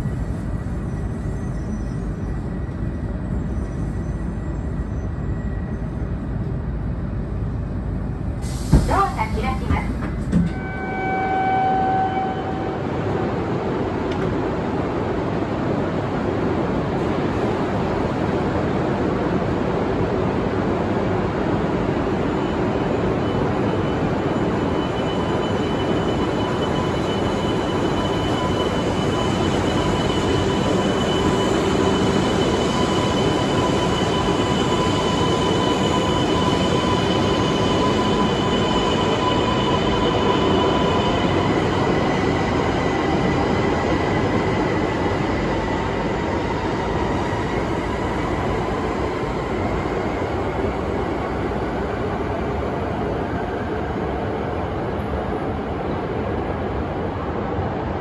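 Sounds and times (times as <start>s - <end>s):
rising train tone: 0.0s - 58.0s
train wheels rumbling on rail: 0.0s - 58.0s.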